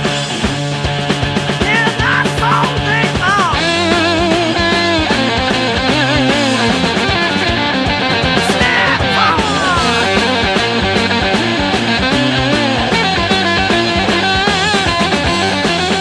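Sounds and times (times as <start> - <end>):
bass: 0.0 - 16.0
electric guitar lead: 0.0 - 16.0
drum beat: 1.3 - 15.4.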